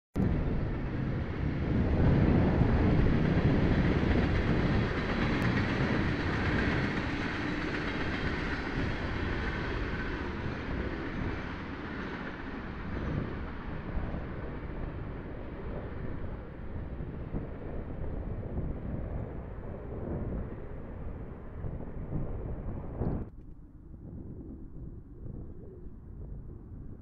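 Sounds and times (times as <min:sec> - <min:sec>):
freight train rumbling past: 0:00.2 - 0:23.3.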